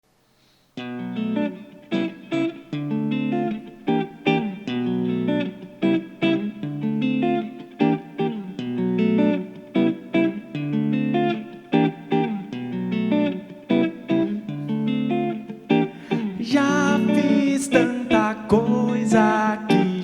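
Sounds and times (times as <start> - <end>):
guitar picked pattern: 0.8 - 20.0.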